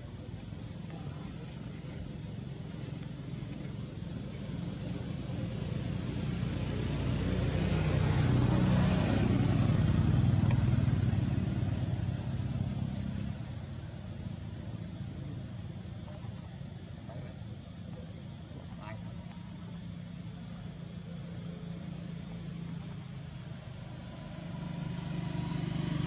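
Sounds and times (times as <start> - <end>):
motor vehicle passing by: 0.0 - 17.4, 18.0 - 26.0.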